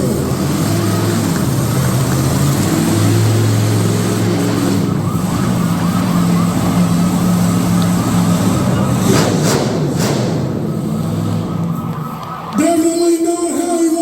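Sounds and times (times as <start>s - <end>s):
monster truck engine running: 0.0s - 14.0s.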